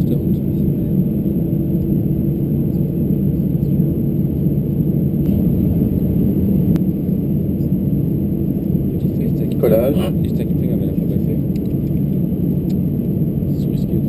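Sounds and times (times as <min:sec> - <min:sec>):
jet engines idling low rumble: 0:00.0 - 0:14.0.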